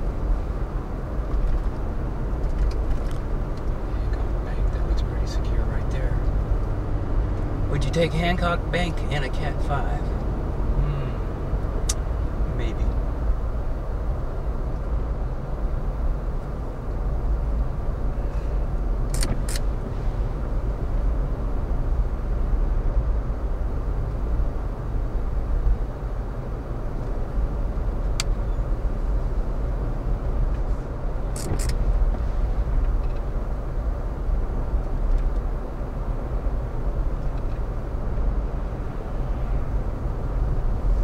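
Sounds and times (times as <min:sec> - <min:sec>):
car road and engine rumble: 0:00.0 - 0:41.0.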